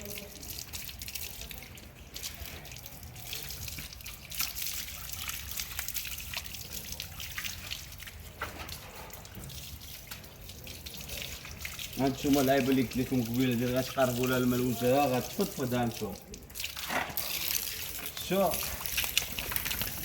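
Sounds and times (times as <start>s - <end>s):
water splashing and dripping: 0.0s - 20.0s.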